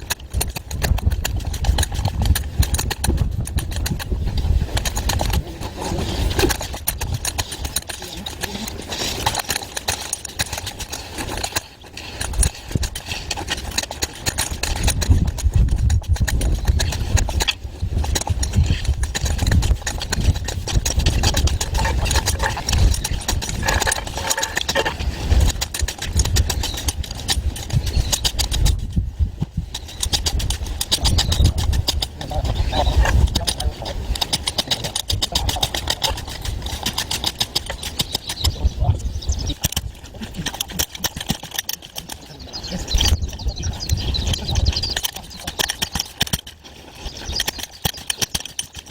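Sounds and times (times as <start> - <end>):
compaction tool rattling vibration: 0.0 - 48.9.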